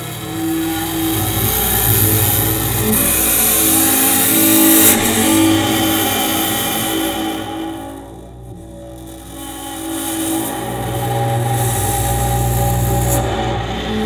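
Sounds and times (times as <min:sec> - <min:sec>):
double bass bowed hard: 0:00.0 - 0:14.0.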